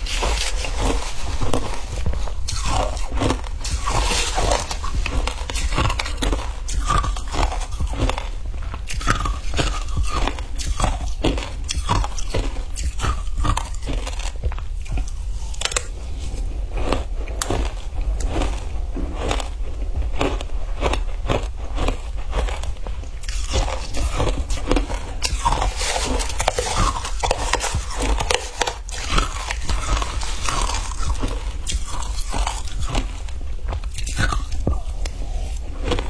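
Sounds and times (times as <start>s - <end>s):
ice being chewed: 0.0s - 36.0s.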